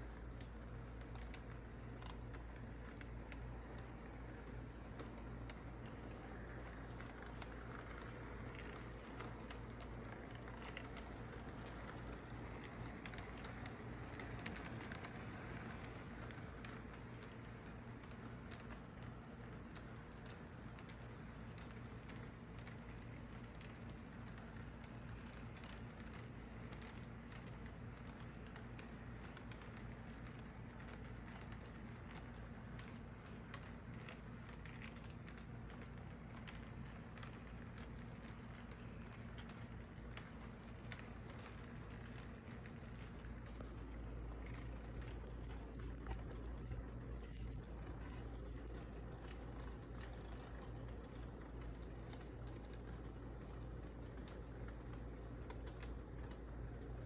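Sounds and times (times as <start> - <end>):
train rumbling: 0.0 - 27.5, 37.2 - 57.0
wheels clicking on track: 0.0 - 57.0.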